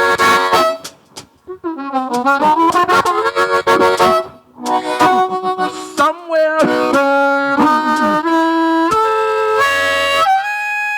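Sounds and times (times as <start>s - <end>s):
blues harmonica: 0.0s - 10.9s.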